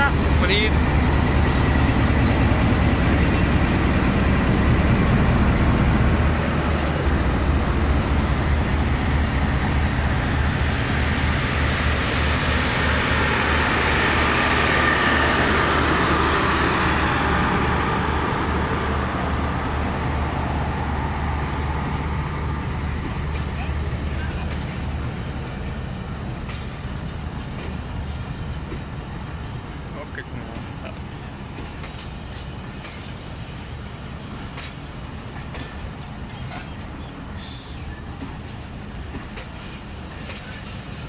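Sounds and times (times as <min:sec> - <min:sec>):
train clattering on rails: 0:00.0 - 0:41.0.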